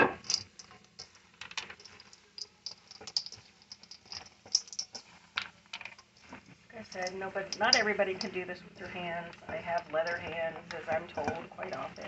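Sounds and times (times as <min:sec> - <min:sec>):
bread cubes crackling and rustling: 0:00.0 - 0:12.0
hands mixing stuffing in bowl: 0:00.1 - 0:12.0.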